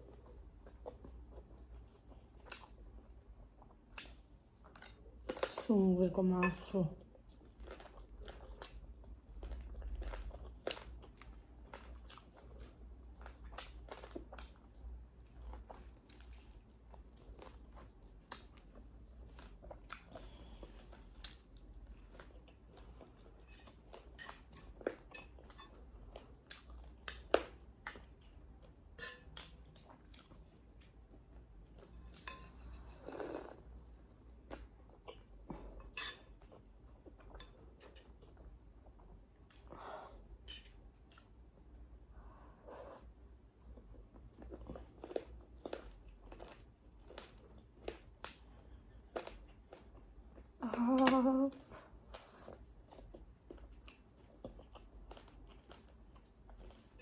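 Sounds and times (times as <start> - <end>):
chewing crispy food: 0.0 - 5.8, 6.9 - 57.0.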